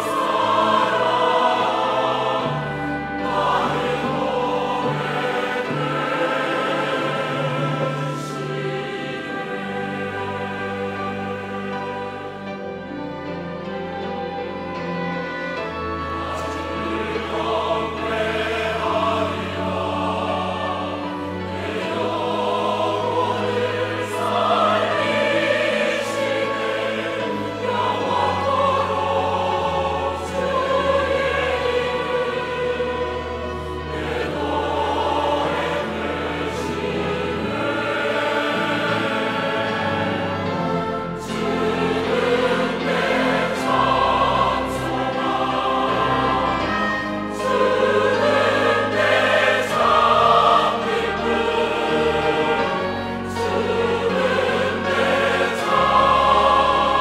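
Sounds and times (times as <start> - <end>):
church choir singing a hymn: 0.0 - 57.0
organ: 0.0 - 57.0
piano: 0.0 - 57.0
string orchestra: 0.0 - 57.0.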